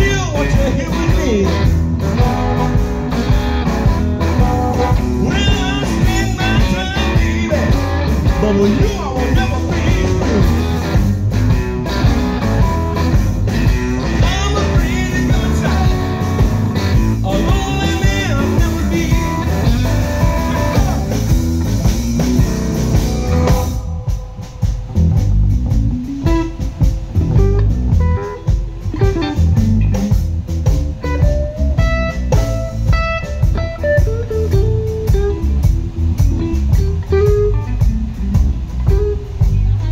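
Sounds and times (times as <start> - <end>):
bass guitar: 0.0 - 39.9
electric blues band: 0.0 - 39.9
electric guitar: 0.0 - 39.9.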